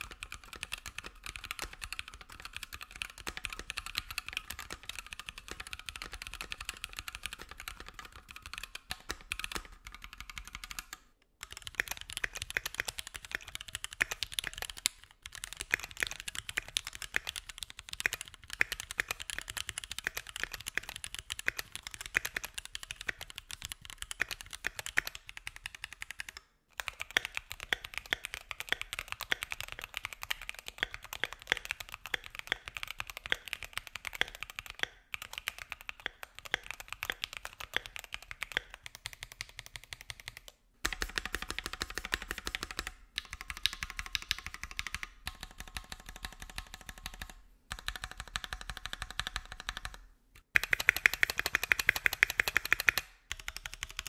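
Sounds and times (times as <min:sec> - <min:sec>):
fast typing on mechanical keyboard: 0:00.0 - 0:54.0.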